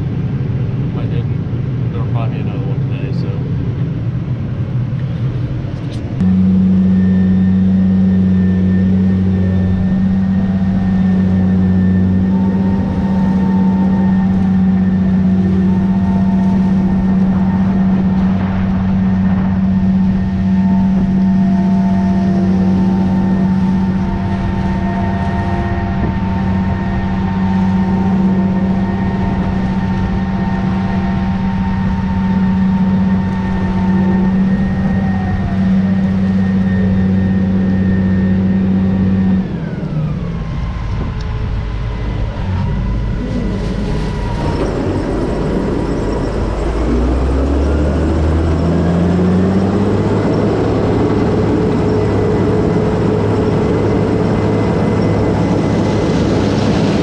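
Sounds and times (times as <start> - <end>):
heavy machinery engine droning: 0.0 - 57.0.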